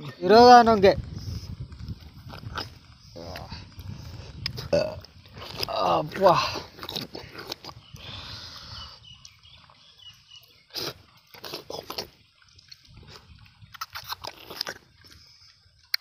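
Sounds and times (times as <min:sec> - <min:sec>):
wet slurping: 0:01.1 - 0:16.0
biting fruit: 0:01.4 - 0:16.0.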